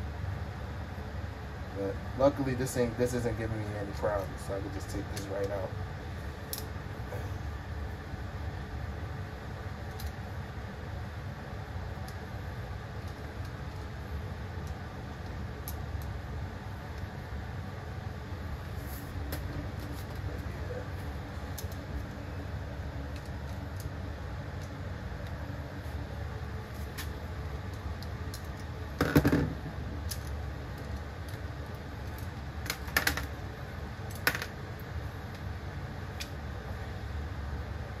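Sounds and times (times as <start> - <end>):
low background hum: 0.0 - 38.0.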